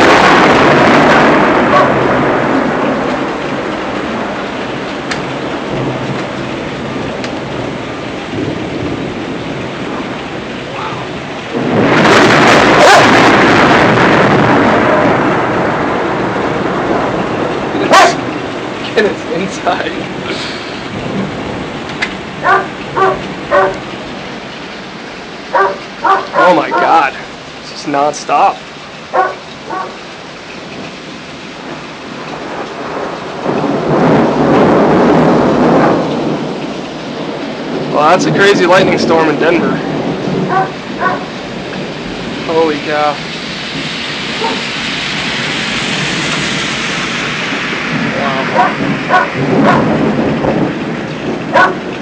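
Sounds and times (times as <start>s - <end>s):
heavy rain pouring: 0.0s - 52.0s
loud thunderclap rumbling: 0.0s - 52.0s.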